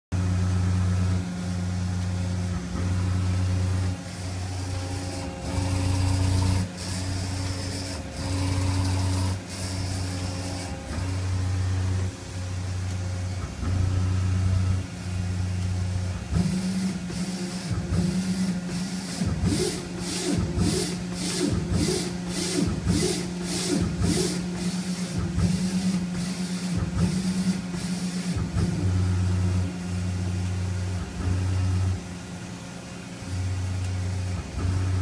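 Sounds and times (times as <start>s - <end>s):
pulsing machine drone: 0.2s - 32.4s
higher steady machine hum: 0.2s - 35.0s.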